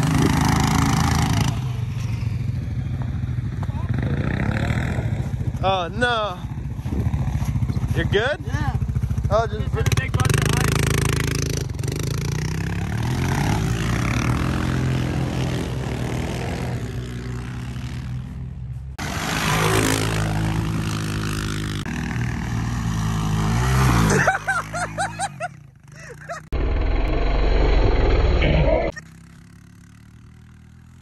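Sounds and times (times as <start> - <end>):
quad bike engine revving: 0.0 - 18.4, 19.0 - 31.0.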